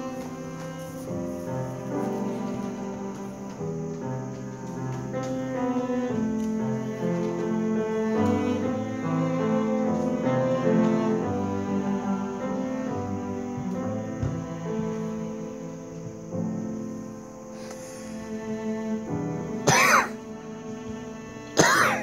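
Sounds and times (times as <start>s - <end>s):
chamber orchestra with piano: 0.0s - 22.0s.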